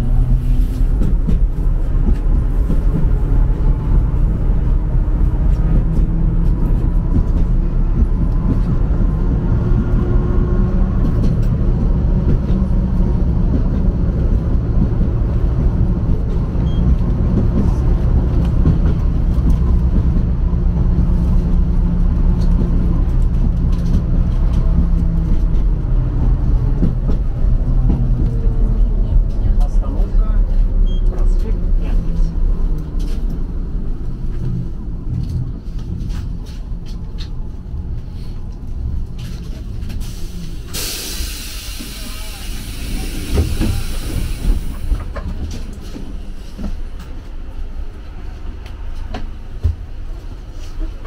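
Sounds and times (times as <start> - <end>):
tram rumbling on rails: 0.0 - 51.0.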